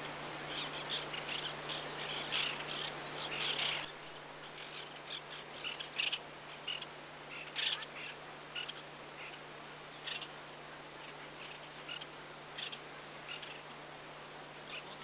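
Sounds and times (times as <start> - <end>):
terns calling harshly: 0.0 - 13.7.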